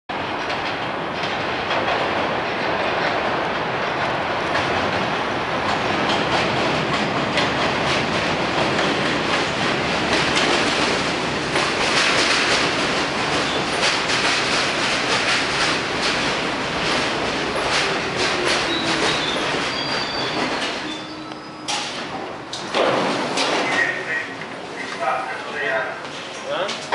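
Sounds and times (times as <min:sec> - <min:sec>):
subway train rumbling on rails: 0:00.1 - 0:26.9.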